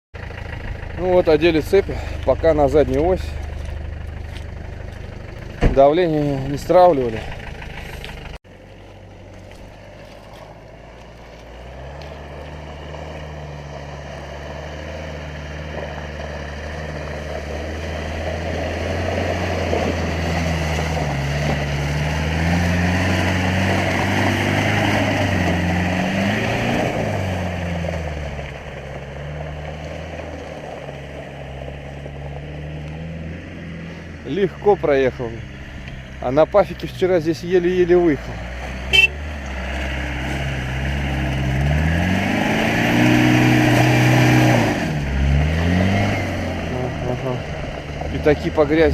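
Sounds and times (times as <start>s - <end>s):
diesel engine under load: 0.2s - 48.9s.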